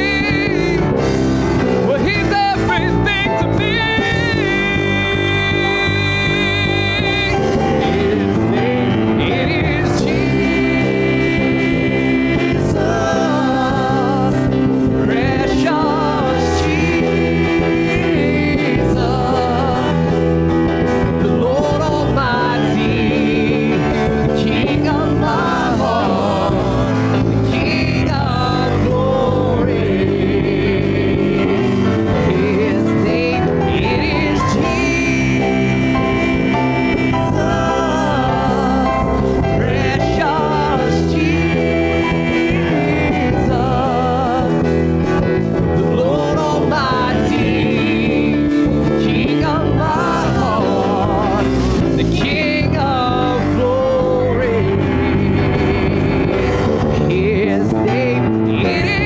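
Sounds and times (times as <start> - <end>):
gospel band playing: 0.0 - 59.0
people singing: 0.0 - 59.0.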